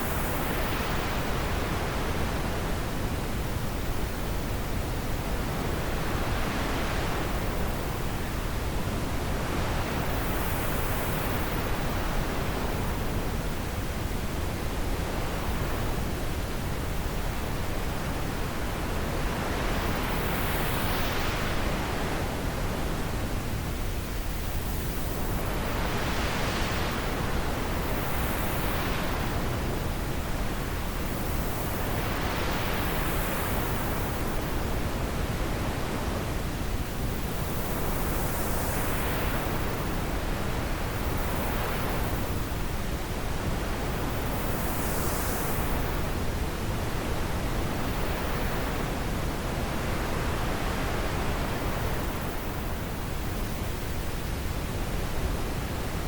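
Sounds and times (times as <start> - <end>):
rushing wind with gusts: 0.0 - 56.0.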